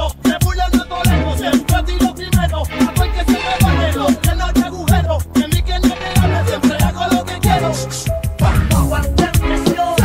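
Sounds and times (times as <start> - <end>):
reggaeton song with deep kick drums: 0.0 - 10.0.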